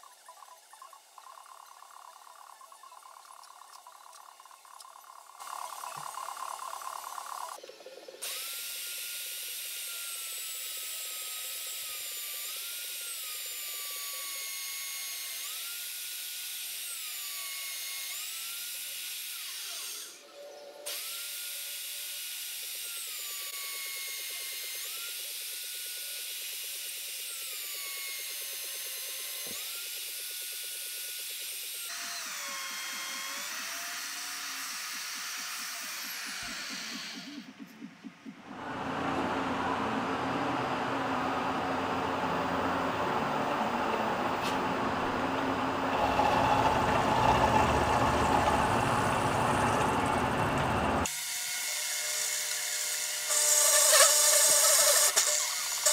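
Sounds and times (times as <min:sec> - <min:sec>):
magnetic drill motor whine: 0:00.0 - 0:37.8, 0:46.0 - 0:55.9.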